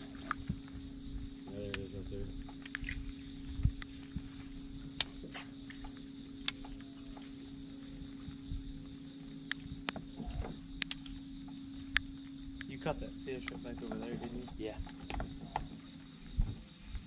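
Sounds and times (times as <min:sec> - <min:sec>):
trolling motor humming: 0:00.0 - 0:17.0.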